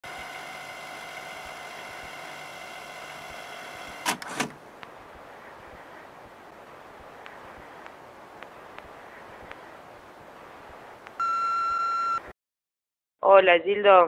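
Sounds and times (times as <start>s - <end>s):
electrical hum: 0.0s - 12.2s.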